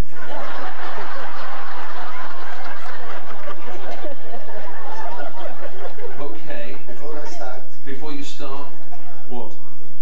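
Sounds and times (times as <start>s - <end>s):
audience laughing: 0.0s - 7.7s, 8.7s - 9.4s.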